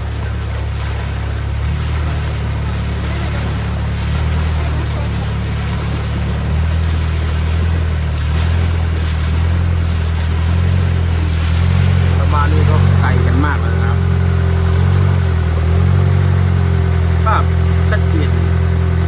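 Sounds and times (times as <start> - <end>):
motorboat engine running: 0.0 - 19.0
water rushing: 0.0 - 19.0
wind: 0.0 - 19.0.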